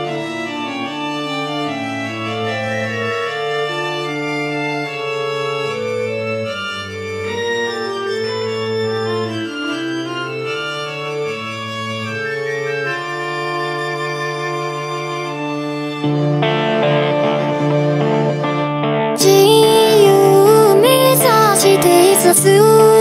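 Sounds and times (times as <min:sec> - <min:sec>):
organ-like keyboard chords: 0:00.0 - 0:23.0.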